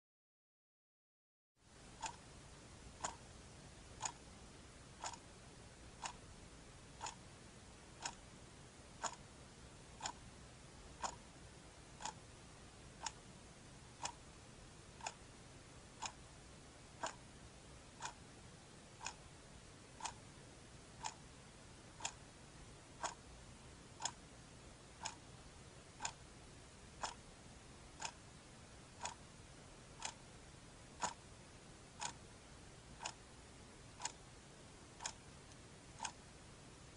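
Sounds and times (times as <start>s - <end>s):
faint steady hiss: 1.6s - 36.9s
clock ticking: 1.9s - 2.3s, 2.9s - 6.3s, 6.9s - 7.3s, 7.9s - 13.3s, 13.9s - 15.3s, 15.9s - 16.3s, 16.9s - 22.3s, 22.9s - 27.3s, 27.9s - 29.3s, 29.9s - 36.9s.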